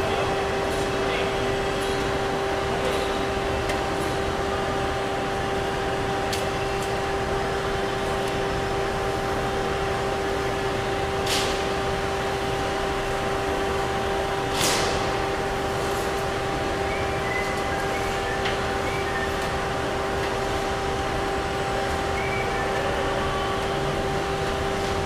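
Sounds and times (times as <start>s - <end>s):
furnace fan hum with whine: 0.0s - 25.0s.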